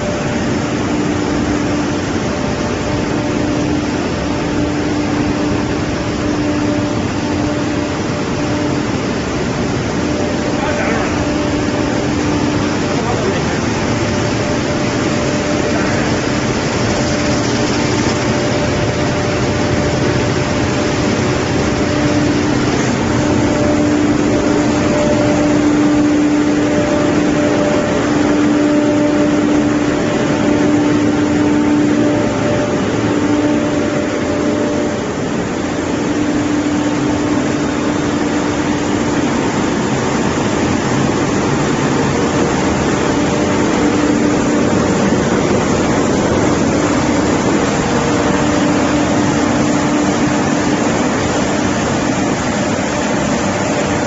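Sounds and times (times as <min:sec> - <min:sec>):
machine droning hum: 0:00.0 - 0:54.0.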